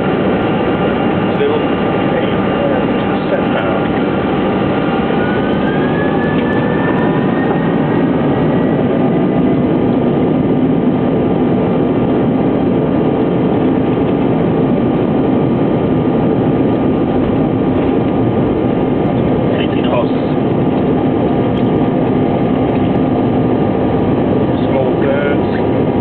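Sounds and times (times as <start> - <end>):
engine whine: 0.0 - 26.0
jet engine and airflow rush: 0.0 - 26.0.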